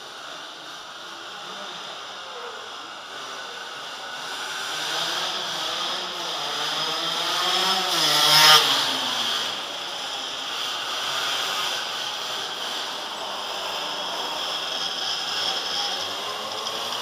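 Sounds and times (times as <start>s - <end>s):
engine running steadily: 0.0s - 17.0s
small motorcycle revving past: 1.7s - 17.0s.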